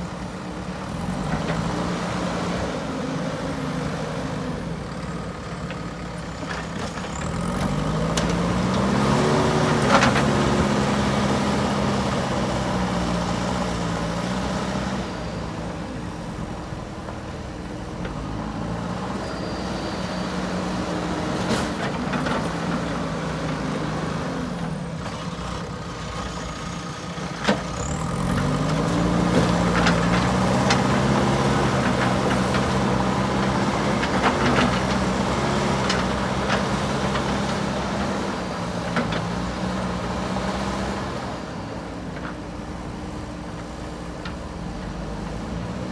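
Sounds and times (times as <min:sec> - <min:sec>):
diesel engine revving: 0:00.1 - 0:45.9.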